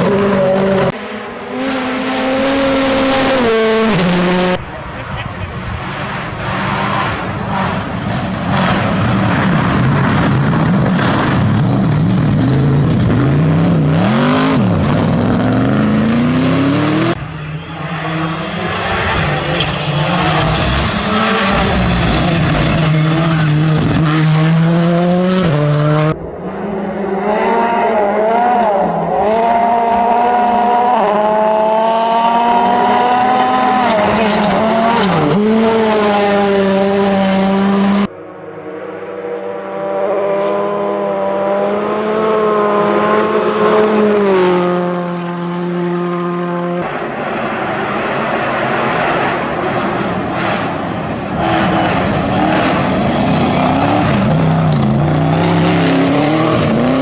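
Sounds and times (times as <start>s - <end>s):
rally car engines passing: 0.0s - 57.0s.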